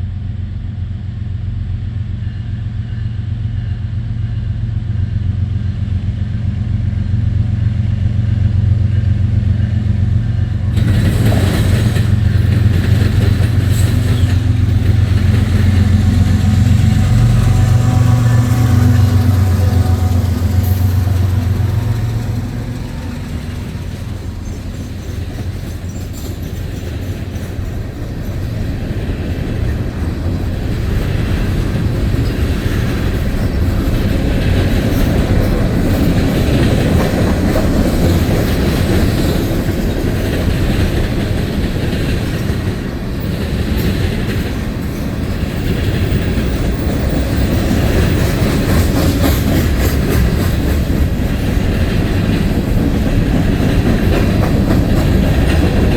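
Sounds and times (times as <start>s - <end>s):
diesel locomotive hum: 0.0s - 55.9s
freight train wheels clattering: 8.9s - 55.9s.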